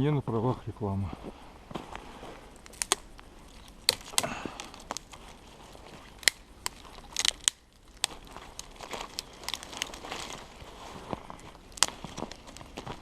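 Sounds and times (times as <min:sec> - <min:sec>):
cracks and crinkles of tearing: 0:01.7 - 0:13.0.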